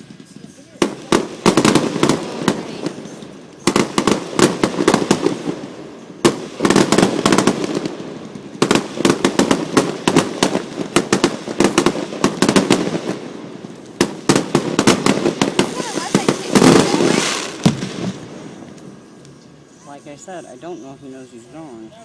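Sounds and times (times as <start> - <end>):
fireworks crackling and popping: 0.0 - 22.0.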